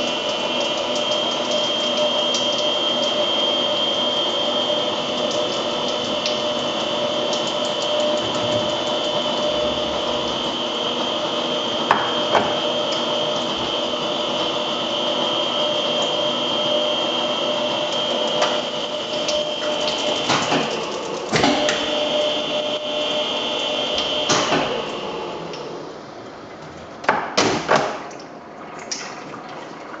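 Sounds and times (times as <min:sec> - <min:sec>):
lathe whining: 0:00.0 - 0:26.2.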